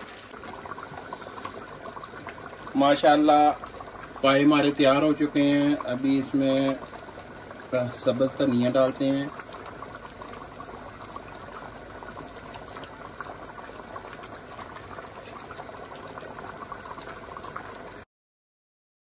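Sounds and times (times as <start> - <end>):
curry bubbling in a pan: 0.0 - 18.1.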